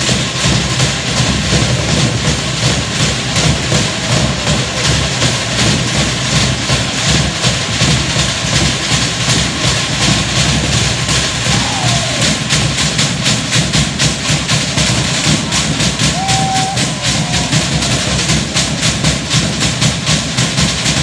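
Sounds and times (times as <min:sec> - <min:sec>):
fast loud drumming: 0:00.0 - 0:21.0.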